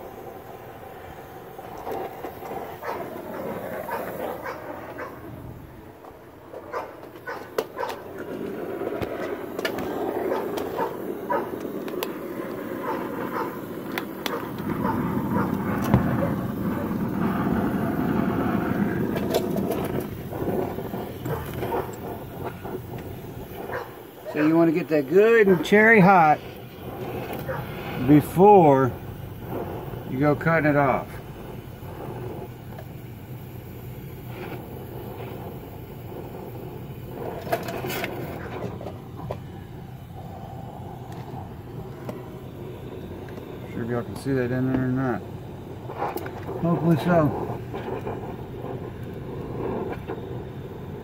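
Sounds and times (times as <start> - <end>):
cutting torch flame hissing: 0.0 - 51.0.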